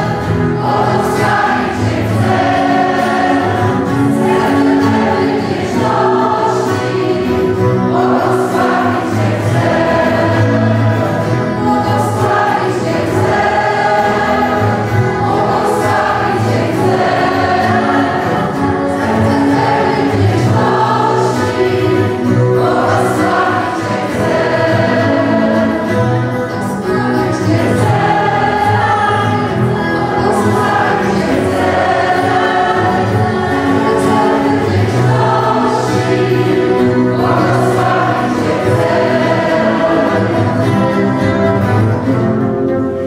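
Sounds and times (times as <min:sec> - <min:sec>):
acoustic guitar: 0:00.0 - 0:43.0
congregation singing: 0:00.0 - 0:43.0.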